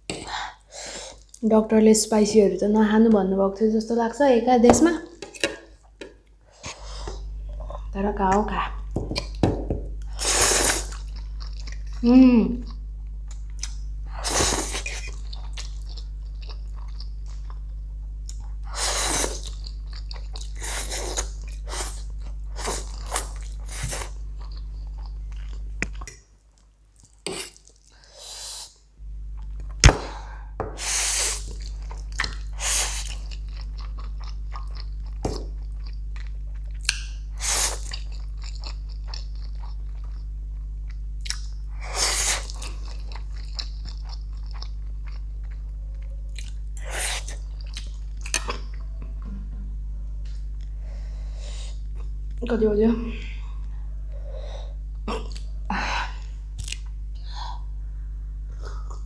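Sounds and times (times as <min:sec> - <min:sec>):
low hum: 0:01.4 - 0:26.2, 0:28.9 - 0:59.0.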